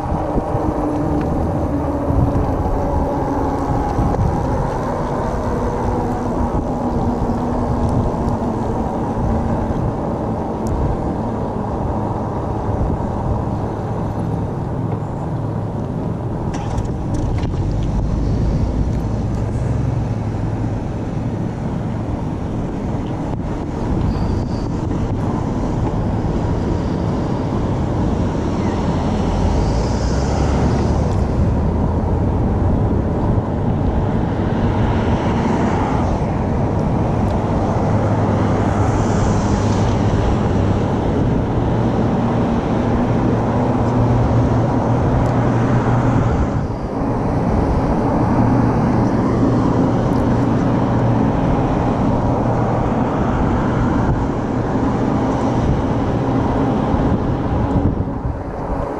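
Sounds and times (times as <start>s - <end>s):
cars passing: 0.0s - 58.9s
road rumble: 0.0s - 58.9s
wind: 0.0s - 58.9s.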